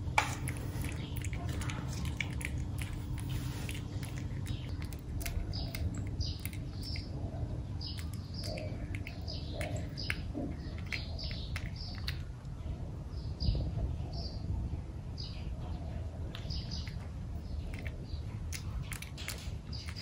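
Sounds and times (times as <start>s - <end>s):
cat chewing and licking food: 0.0s - 12.6s, 16.5s - 20.0s
small birds chirping: 0.0s - 14.5s, 15.2s - 20.0s.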